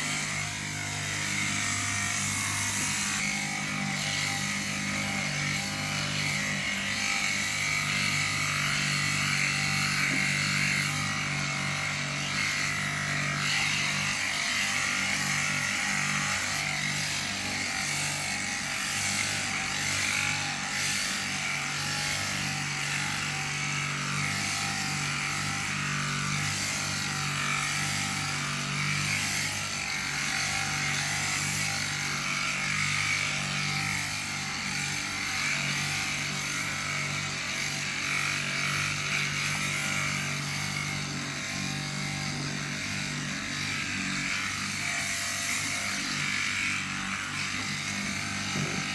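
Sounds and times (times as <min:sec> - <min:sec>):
cutter buzzing: 0:00.0 - 0:48.9
electric shears humming: 0:00.0 - 0:48.9.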